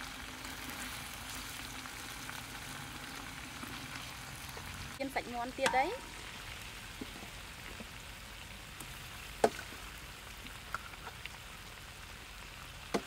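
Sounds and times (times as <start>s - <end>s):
sauce sizzling in a wok: 0.0s - 13.0s.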